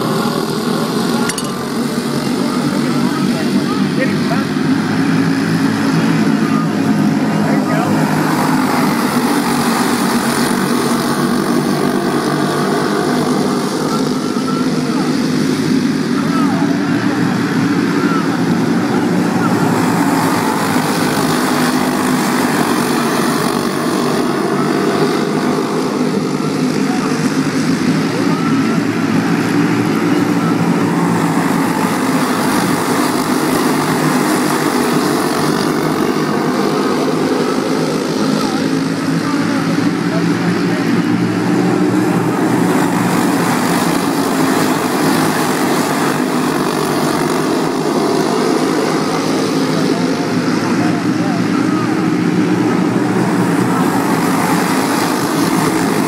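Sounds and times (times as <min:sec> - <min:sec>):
go-kart engines at full throttle: 0:00.0 - 0:56.0.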